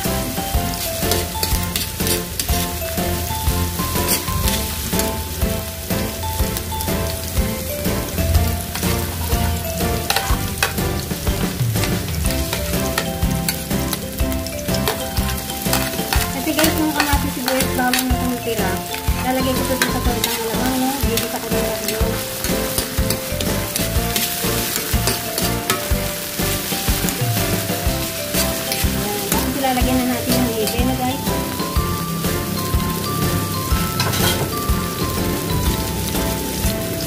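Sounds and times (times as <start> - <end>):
spatula stirring: 0.0 - 37.0
vegetables sizzling in oil: 0.0 - 37.0.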